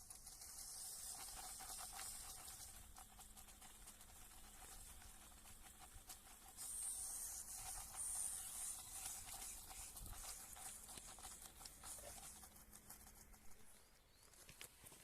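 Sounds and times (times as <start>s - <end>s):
toy motor and gears whirring: 0.0s - 15.0s.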